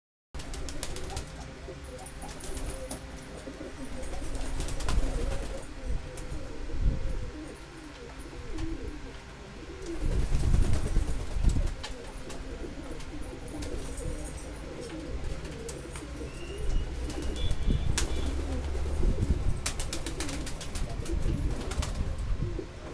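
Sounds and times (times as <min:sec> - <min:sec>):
pigeons cooing: 0:00.4 - 0:22.9.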